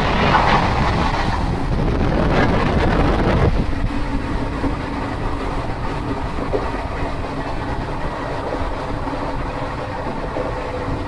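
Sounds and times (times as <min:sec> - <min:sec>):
train wheels rumbling and clattering: 0:00.0 - 0:11.0.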